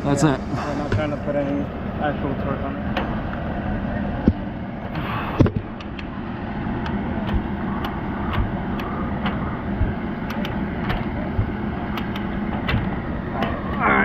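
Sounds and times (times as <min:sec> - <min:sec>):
machinery engine drone: 0:00.0 - 0:14.0.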